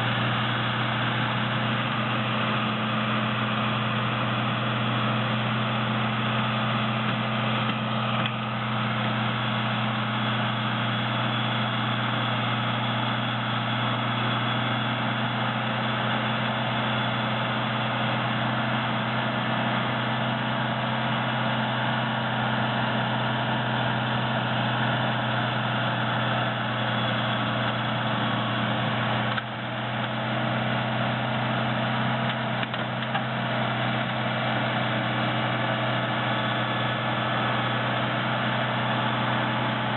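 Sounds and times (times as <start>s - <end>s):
snow-removal machine engine droning: 0.0s - 39.9s.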